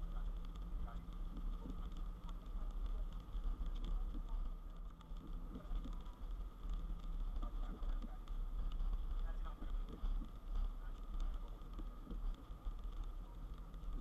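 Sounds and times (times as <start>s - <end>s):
raindrops on windshield: 0.0s - 14.0s.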